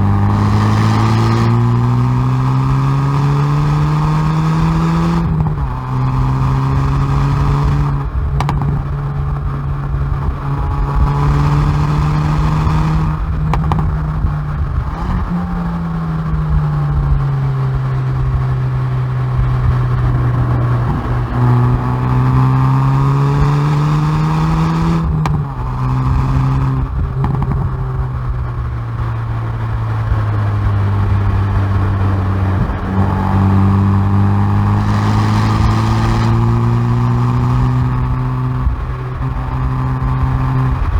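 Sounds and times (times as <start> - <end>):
car exhaust under hard driving: 0.0 - 40.9
exhaust cracks: 0.0 - 40.9
road and wind noise: 0.0 - 40.9.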